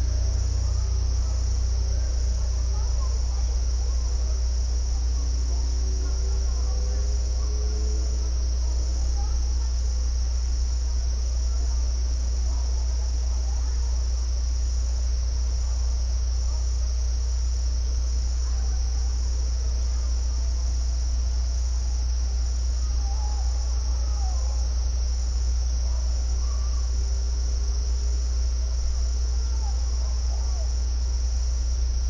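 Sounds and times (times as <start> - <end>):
constant low rumble: 0.0 - 32.0
crickets trilling: 0.0 - 32.0.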